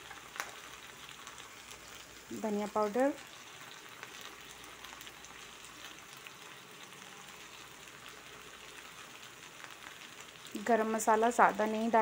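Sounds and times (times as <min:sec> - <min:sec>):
vegetables frying in oil: 0:00.0 - 0:12.0.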